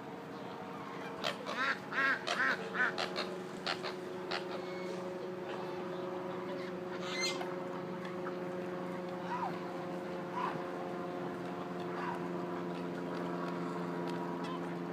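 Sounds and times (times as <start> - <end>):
ducks and geese calling: 0.0 - 14.7
low mechanical hum: 0.0 - 14.9.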